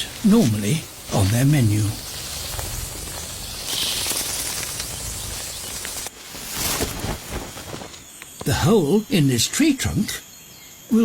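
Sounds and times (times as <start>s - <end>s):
hissing insect buzz: 0.0s - 11.0s.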